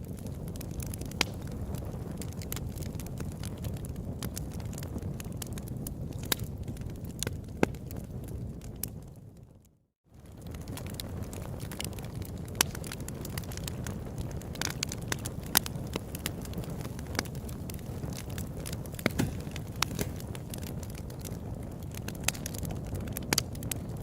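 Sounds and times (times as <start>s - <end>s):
campfire pops and snaps: 0.0s - 9.2s, 10.2s - 24.0s
low rumble of burning fire: 0.0s - 24.0s.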